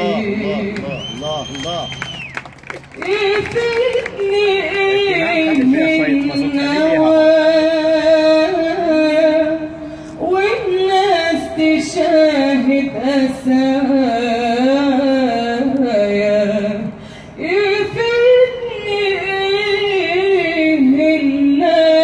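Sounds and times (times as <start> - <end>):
woman singing with vibrato: 0.0 - 0.8, 3.0 - 22.0.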